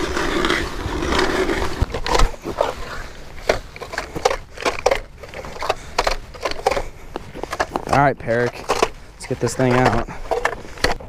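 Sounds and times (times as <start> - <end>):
ice auger grinding: 0.0 - 11.0
ice crunching and clicking: 0.0 - 11.0.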